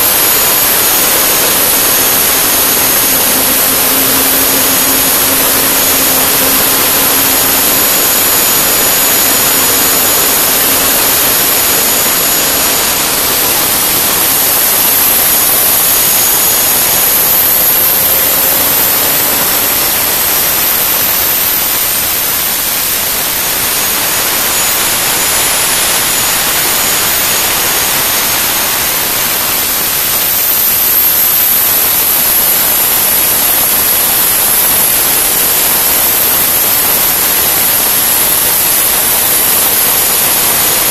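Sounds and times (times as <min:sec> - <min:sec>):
gas turbine roar: 0:00.0 - 0:40.9
high-pitched turbine whine: 0:00.0 - 0:40.9.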